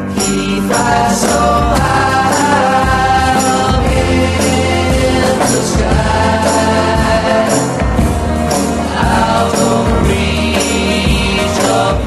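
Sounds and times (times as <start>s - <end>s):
choir-like backing vocals: 0.0s - 12.0s
pop band with steady beat: 0.0s - 12.0s
shimmering percussion strokes: 0.1s - 12.0s.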